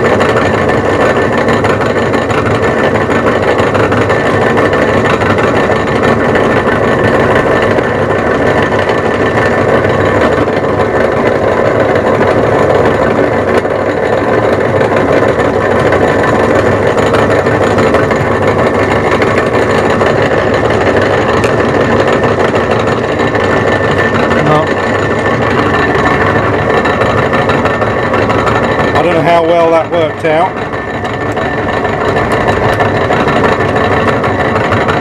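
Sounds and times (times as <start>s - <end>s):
metal lathe drilling: 0.0s - 35.0s.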